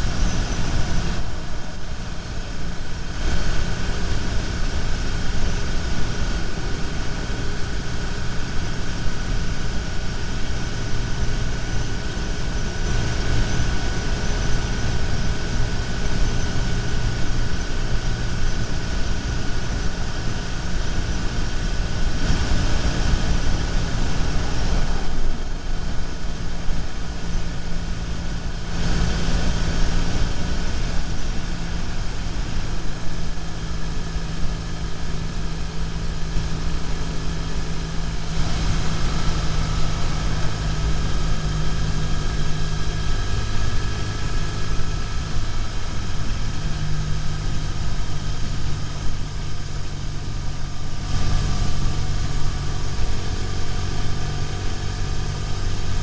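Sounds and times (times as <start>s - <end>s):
motorcycle engine running steadily: 0.0s - 56.0s
wind and road noise: 0.0s - 56.0s.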